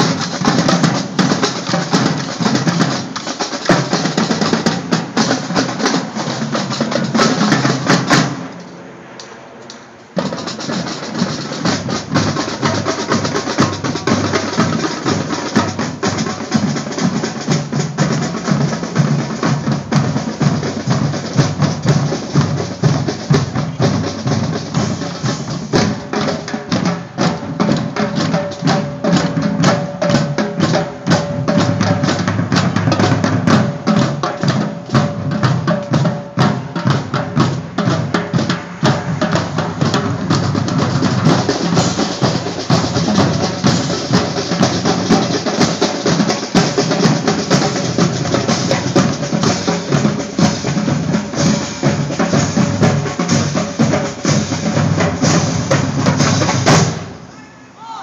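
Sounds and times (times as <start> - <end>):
snare drums: 0.0 - 8.7, 10.2 - 58.0
bass drums: 10.2 - 57.1.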